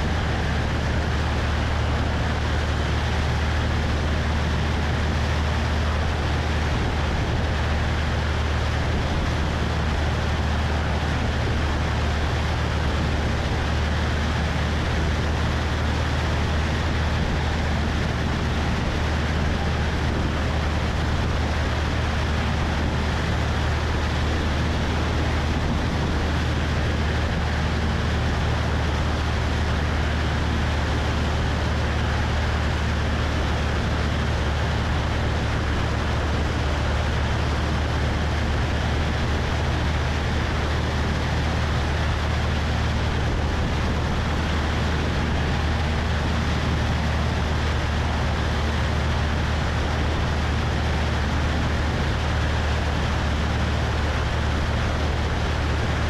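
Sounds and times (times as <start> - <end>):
airplane engine and propeller hum: 0.0 - 56.0.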